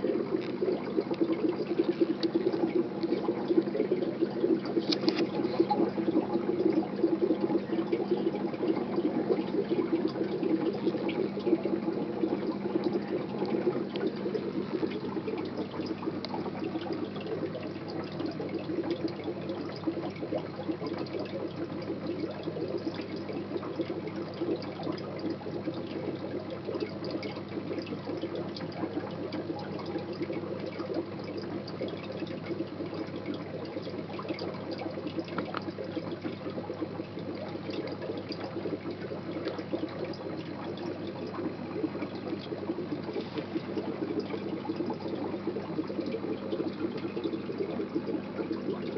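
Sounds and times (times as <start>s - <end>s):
aquarium sponge filters bubbling: 0.0s - 48.9s.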